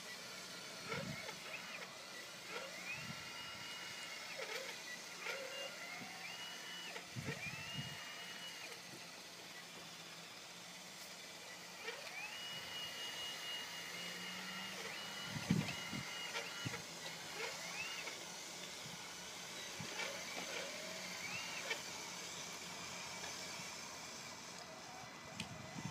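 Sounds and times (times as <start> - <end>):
electric motor whining: 0.0 - 25.9.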